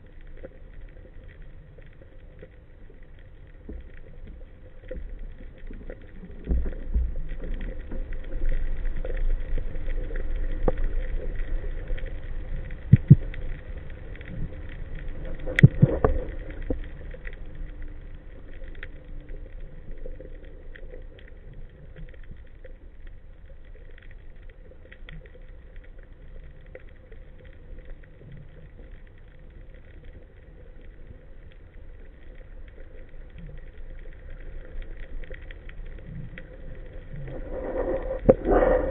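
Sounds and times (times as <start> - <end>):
faint crackling: 0.0 - 38.9
underwater rumble of water: 0.0 - 38.9.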